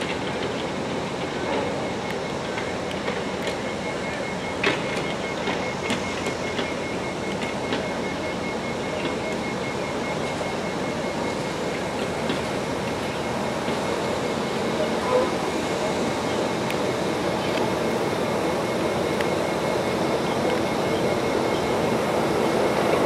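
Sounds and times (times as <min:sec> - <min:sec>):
train wheels rolling on rail: 0:00.0 - 0:23.0.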